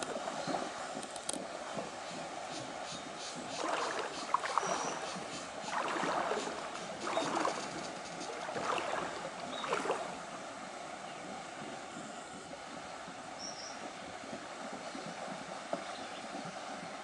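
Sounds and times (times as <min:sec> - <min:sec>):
hooves splashing through river: 0:00.0 - 0:17.0.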